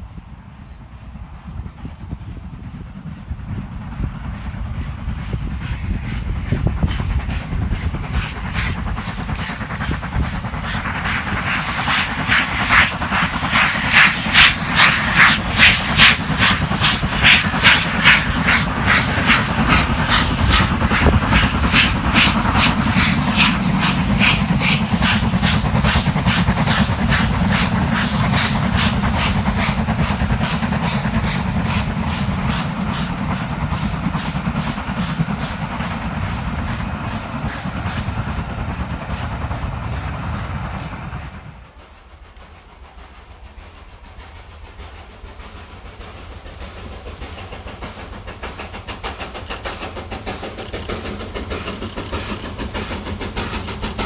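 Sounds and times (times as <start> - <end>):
steam locomotive exhaust beat: 0.0 - 54.0
train rumbling: 0.0 - 54.0.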